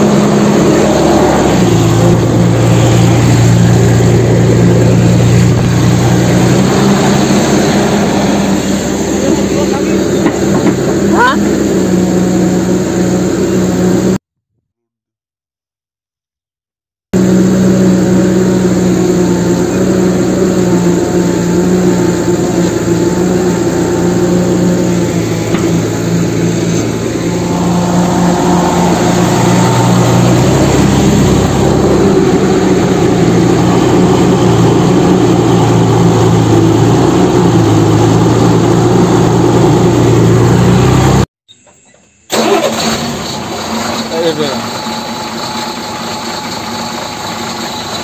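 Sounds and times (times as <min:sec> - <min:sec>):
heavy machinery engine running: 0:00.0 - 0:14.2, 0:17.2 - 0:41.3, 0:42.3 - 0:48.0.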